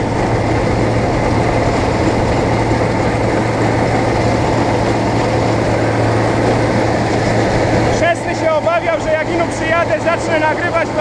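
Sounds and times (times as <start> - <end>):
combine harvester engine drone: 0.0 - 11.0
threshing gear working: 0.0 - 11.0.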